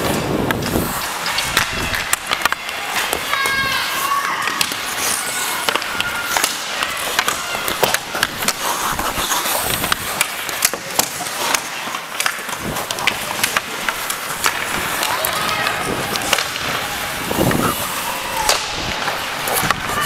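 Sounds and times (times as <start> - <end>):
hockey sticks clacking: 0.0 - 20.0
skates scraping ice: 0.0 - 20.0.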